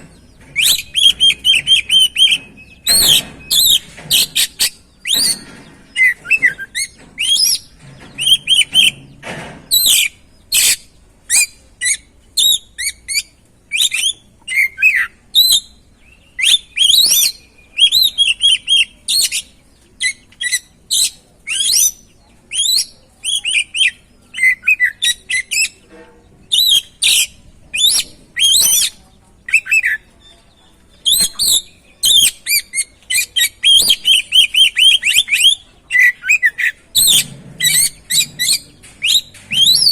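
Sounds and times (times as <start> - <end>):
bird singing whistles and trills: 0.5 - 9.1, 9.7 - 25.8, 26.5 - 30.0, 31.0 - 39.9.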